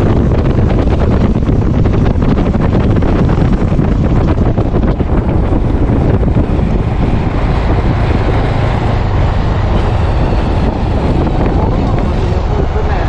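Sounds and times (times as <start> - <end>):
motorcycle running: 0.0 - 13.0
road noise: 0.0 - 13.0
wind rush on microphone: 0.0 - 13.0.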